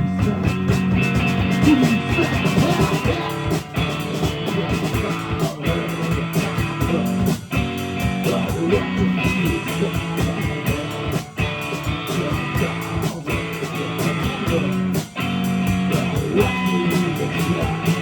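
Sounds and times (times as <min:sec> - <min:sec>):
drum kit beat: 0:00.0 - 0:18.0
electric guitar: 0:00.0 - 0:18.0.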